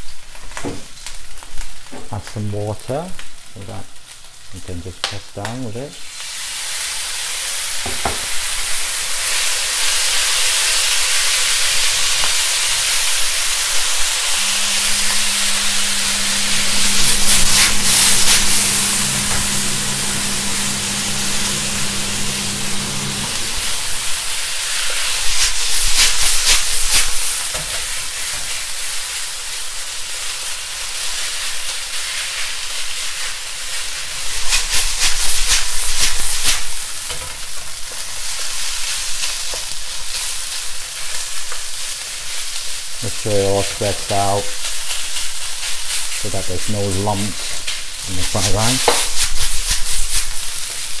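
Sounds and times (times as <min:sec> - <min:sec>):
water sizzling in hot wok: 0:00.0 - 0:51.0.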